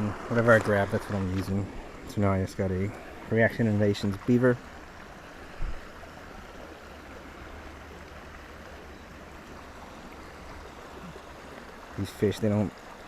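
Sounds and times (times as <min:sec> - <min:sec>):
rushing water-like noise: 0:00.0 - 0:13.0.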